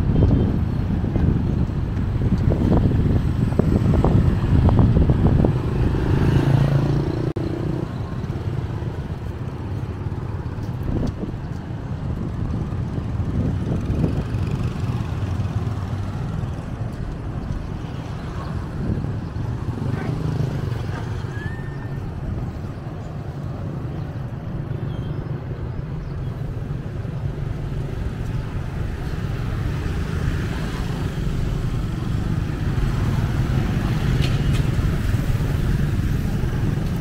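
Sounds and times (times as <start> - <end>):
low rumble of traffic: 0.0 - 37.0
motorbikes passing: 0.0 - 37.0.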